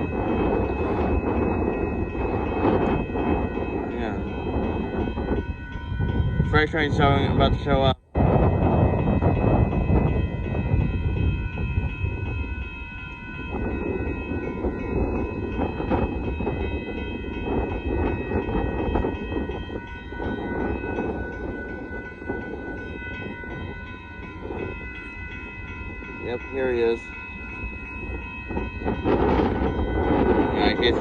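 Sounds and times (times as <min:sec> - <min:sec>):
freight train rumble: 0:00.0 - 0:31.0
high ringing tones: 0:00.0 - 0:31.0.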